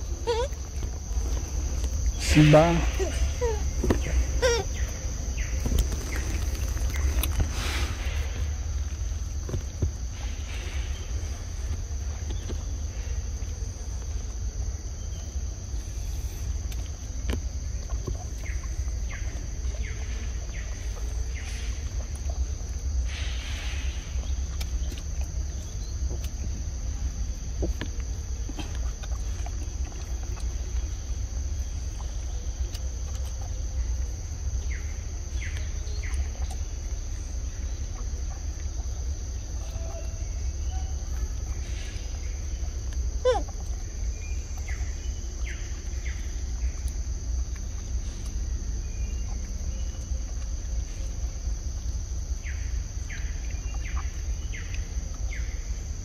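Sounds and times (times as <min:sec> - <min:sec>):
insects droning: 0:00.0 - 0:56.0
low steady rumble: 0:00.0 - 0:56.0.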